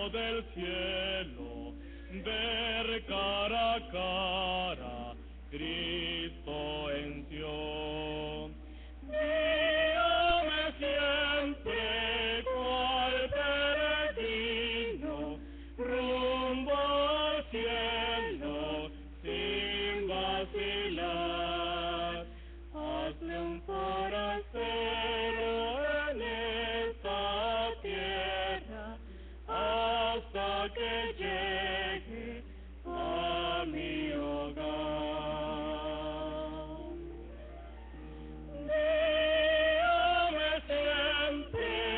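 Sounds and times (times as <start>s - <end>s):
woman and man singing a hymn: 0.0s - 37.0s, 38.6s - 41.9s
low electrical hum: 0.0s - 41.9s.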